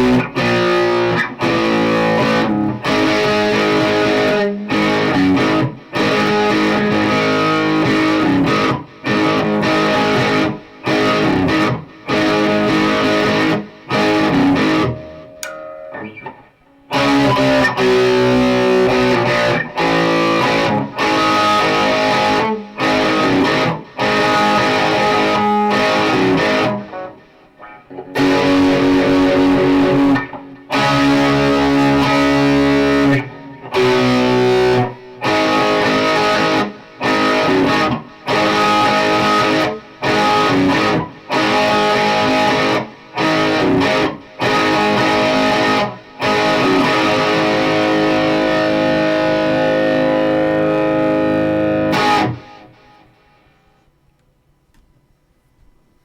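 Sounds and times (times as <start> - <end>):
electric guitar playing chords: 0.0 - 53.5.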